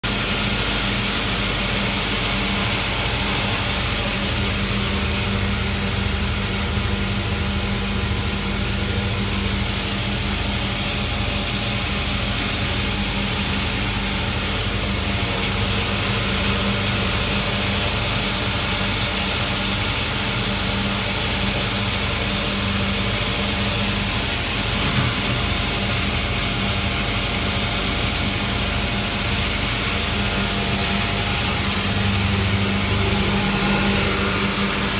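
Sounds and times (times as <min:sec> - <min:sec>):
motor hum with low throb: 0:00.0 - 0:34.9.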